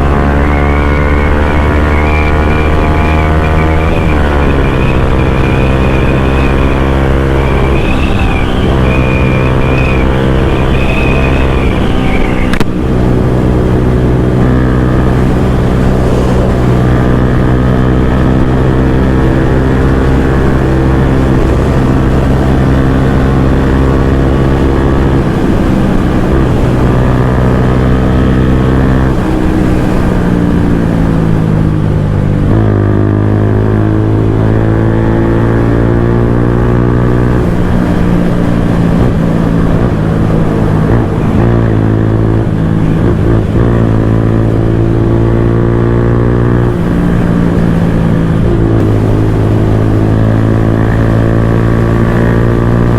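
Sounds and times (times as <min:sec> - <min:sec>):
single-cylinder motorcycle engine: 0:00.0 - 0:52.9.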